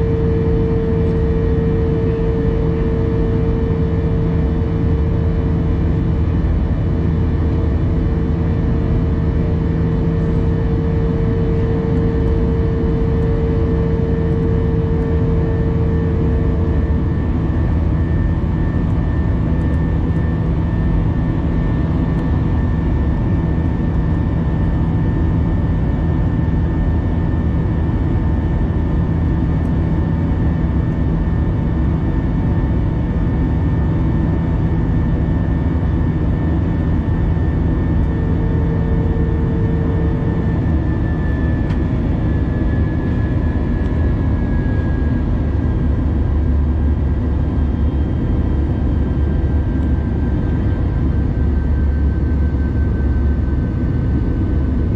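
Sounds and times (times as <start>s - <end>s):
jet engines rumbling in cabin: 0.0s - 54.9s
mid-pitched humming tone: 0.0s - 54.9s.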